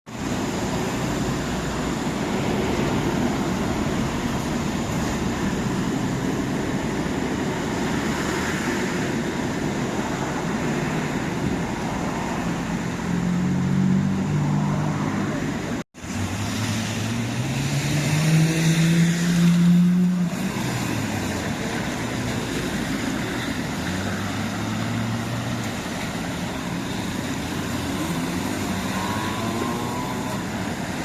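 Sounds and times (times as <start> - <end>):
moving vehicle running noise: 0.1 - 31.0.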